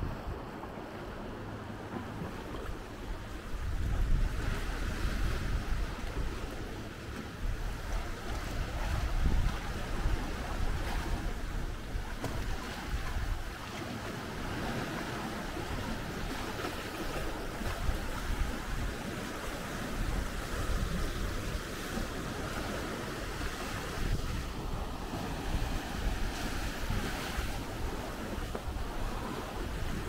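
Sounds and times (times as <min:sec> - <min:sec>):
sea waves washing on beach: 0:00.0 - 0:30.0
wind rumbling on microphone: 0:00.0 - 0:30.0.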